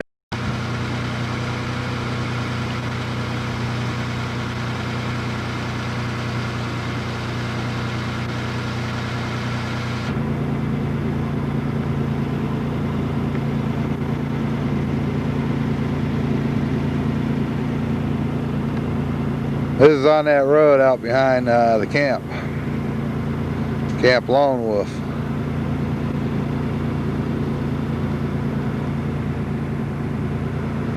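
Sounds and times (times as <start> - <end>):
truck engine humming: 0.3 - 30.9.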